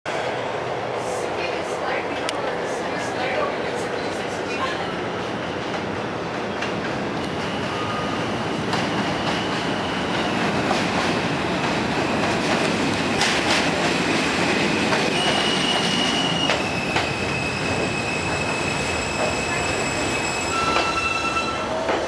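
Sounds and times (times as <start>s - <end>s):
train wheels rumbling on rails: 0.1s - 22.0s.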